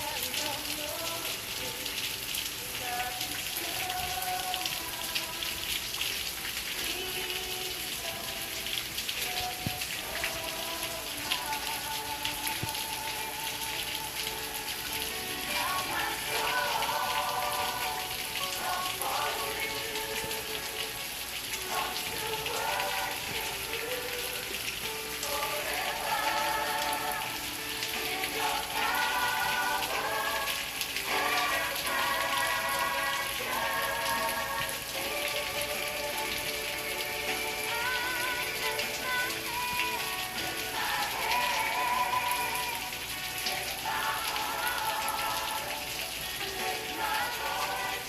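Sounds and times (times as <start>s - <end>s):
rain pattering: 0.0s - 48.0s
soft sustained music: 0.0s - 48.0s.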